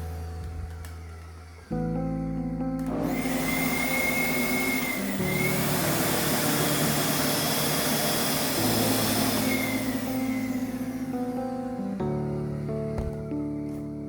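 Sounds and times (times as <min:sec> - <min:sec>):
vacuum cleaner motor running: 0:00.0 - 0:01.8, 0:02.8 - 0:14.0
background guitar music: 0:00.0 - 0:14.0.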